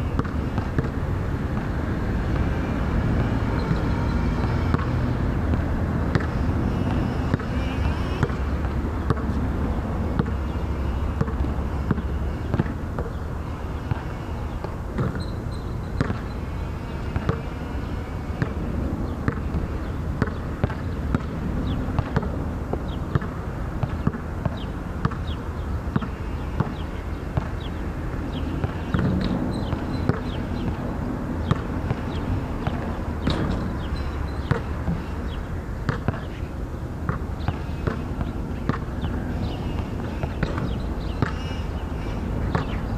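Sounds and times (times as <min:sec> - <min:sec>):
steady low hum: 0:00.0 - 0:42.9
basketball bouncing on hard court: 0:00.1 - 0:30.8, 0:31.4 - 0:36.4, 0:37.1 - 0:41.6, 0:42.5 - 0:42.8.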